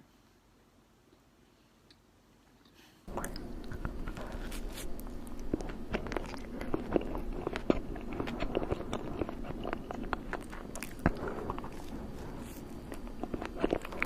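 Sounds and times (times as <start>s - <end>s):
person chewing ice cream: 2.6s - 14.0s.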